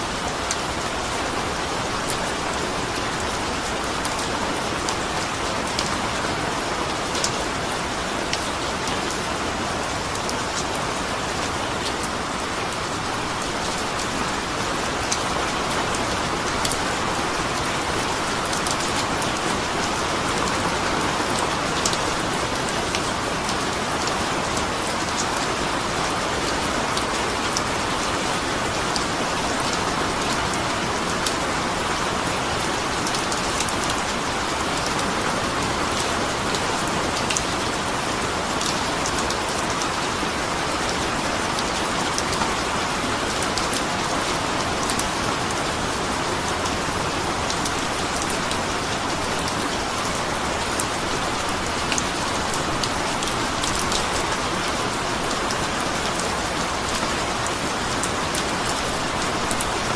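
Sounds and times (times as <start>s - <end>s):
raindrops hitting close by: 0.0s - 59.9s
steady rain hiss: 0.0s - 59.9s.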